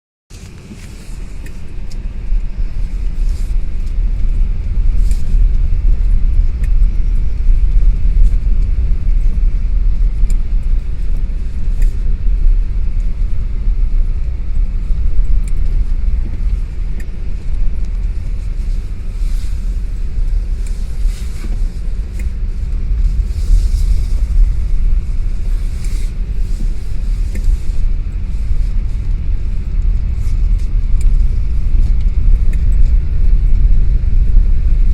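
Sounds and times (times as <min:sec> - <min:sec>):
loud low rumble: 0:00.3 - 0:34.9
faint clicks and ticks: 0:00.4 - 0:34.9.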